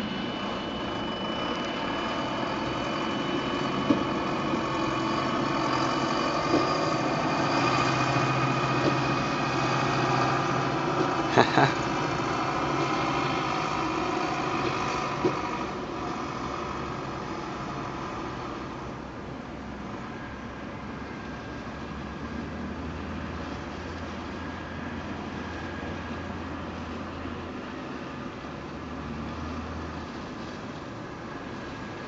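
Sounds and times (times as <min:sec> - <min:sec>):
trolleybus humming: 0:00.0 - 0:32.0.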